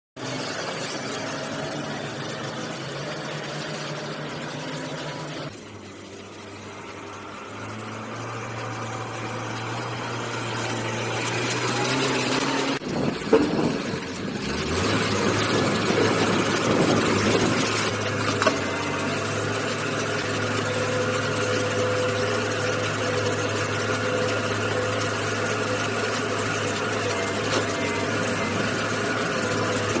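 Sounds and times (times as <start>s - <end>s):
backhoe engine droning: 0.2s - 30.0s.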